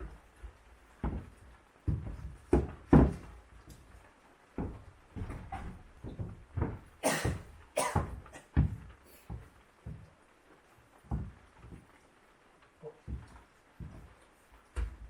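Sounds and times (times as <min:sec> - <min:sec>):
knocks and thumps on wood: 0:00.0 - 0:10.2, 0:10.9 - 0:12.0, 0:13.0 - 0:15.0.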